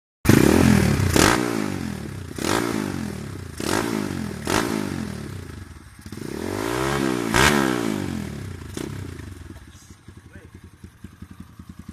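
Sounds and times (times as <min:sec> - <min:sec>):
motorcycle engine revving: 0:00.2 - 0:11.9.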